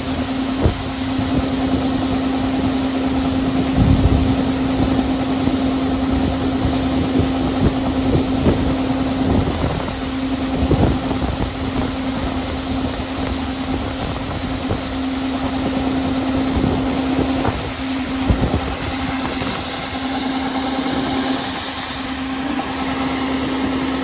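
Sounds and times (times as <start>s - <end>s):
combine harvester engine hum: 0.0s - 24.0s.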